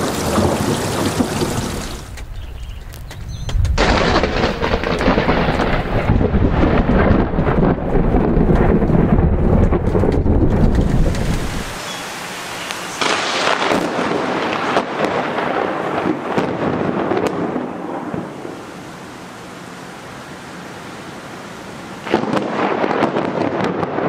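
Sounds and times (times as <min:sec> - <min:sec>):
crackling thunderclap: 0:00.0 - 0:11.8, 0:13.0 - 0:18.6, 0:22.0 - 0:24.0
rain hissing: 0:00.0 - 0:23.4.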